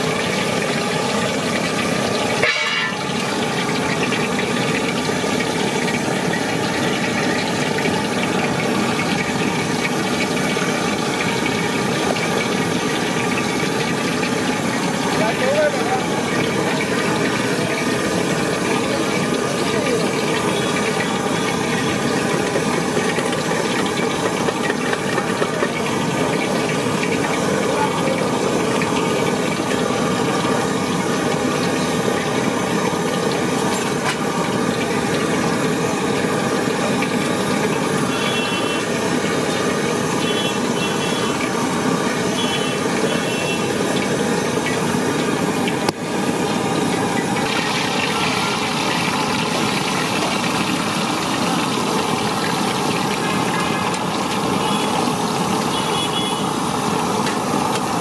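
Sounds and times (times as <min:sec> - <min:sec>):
street stall background roar: 0:00.0 - 0:58.0.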